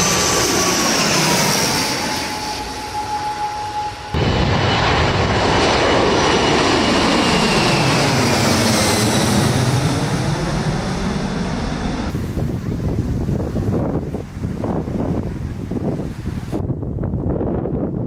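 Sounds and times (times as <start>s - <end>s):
airplane passing overhead: 0.0s - 17.8s.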